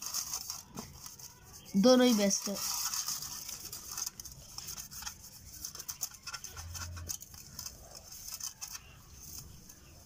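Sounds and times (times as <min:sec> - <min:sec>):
paper crackling under fingers: 0:00.0 - 0:10.0.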